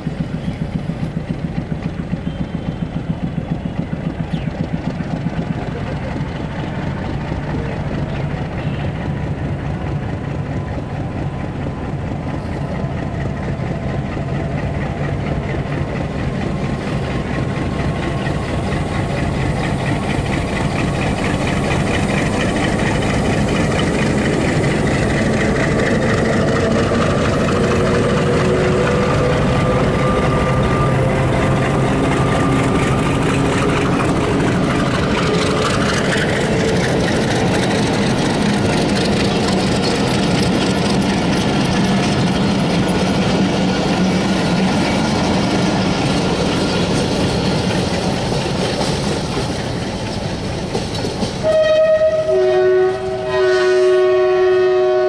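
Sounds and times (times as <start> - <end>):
diesel locomotive engine: 0.0 - 55.0
train coaches rolling on rails: 0.0 - 55.0.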